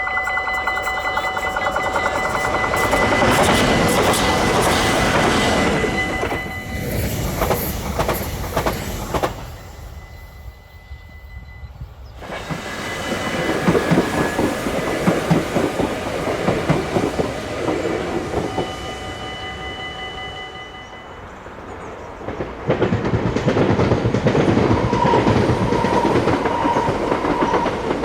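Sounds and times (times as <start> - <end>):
train wheels clacking over rail joints: 0.0 - 9.6, 12.2 - 19.1, 22.1 - 28.0.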